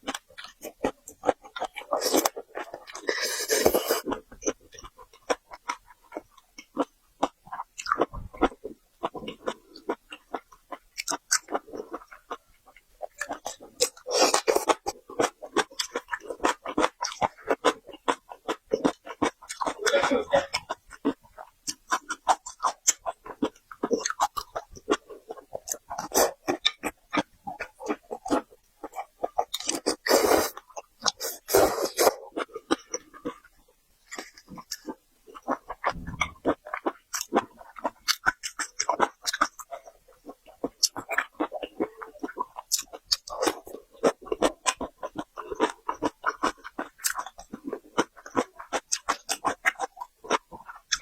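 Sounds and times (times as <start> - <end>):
person chewing seafood: 0.0 - 51.0.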